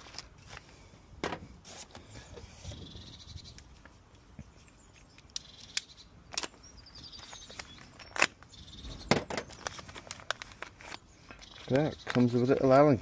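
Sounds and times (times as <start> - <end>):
faint birds chirping: 1.7 - 13.0.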